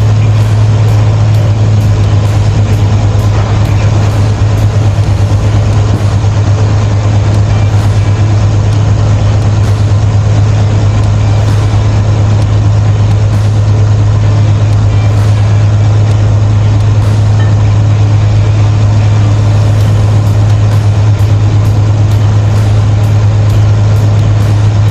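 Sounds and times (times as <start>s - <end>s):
crane diesel engine running: 0.0s - 24.9s.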